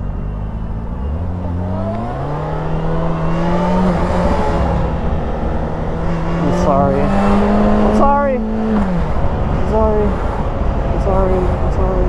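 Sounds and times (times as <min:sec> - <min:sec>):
motorcycle engine accelerating: 0:00.0 - 0:11.7
wind noise: 0:01.7 - 0:12.0.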